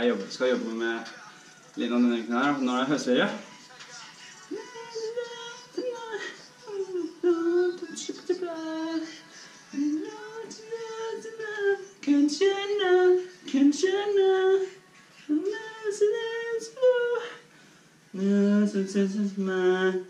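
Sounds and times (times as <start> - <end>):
man singing unaccompanied: 0.0 - 17.4, 18.1 - 20.0.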